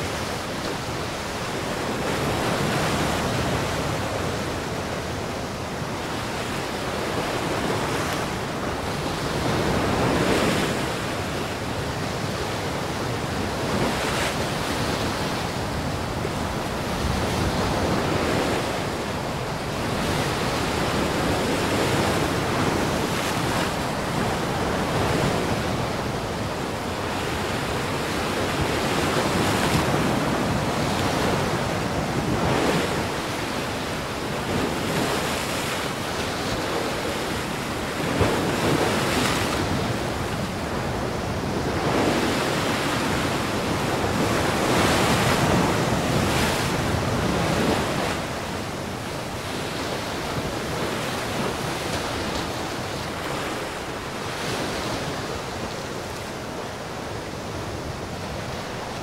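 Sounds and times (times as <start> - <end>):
waves breaking: 0.0 - 59.0
wind buffeting microphone: 0.0 - 59.0.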